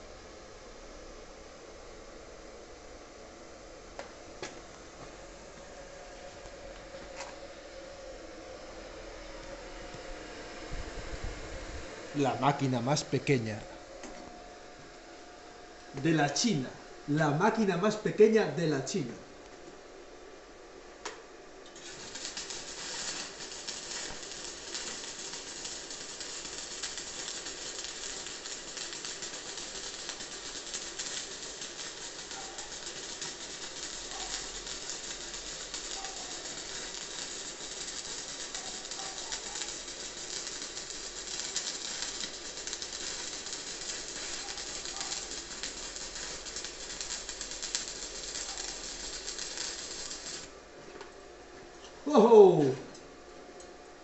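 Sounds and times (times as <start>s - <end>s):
welding arc crackling and hissing: 0.7s - 19.2s, 21.0s - 50.7s.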